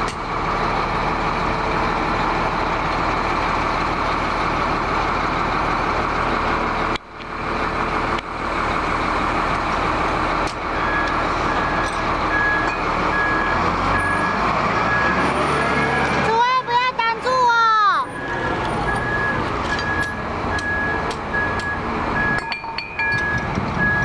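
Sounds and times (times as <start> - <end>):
heavy machine rumbling: 0.0 - 24.0.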